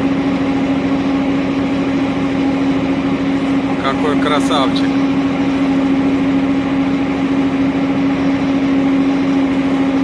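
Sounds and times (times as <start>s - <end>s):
ship engine droning: 0.0s - 10.0s.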